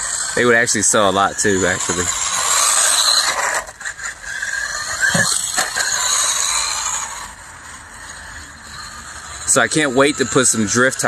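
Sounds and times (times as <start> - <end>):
rc truck motor whining: 0.0 - 11.0.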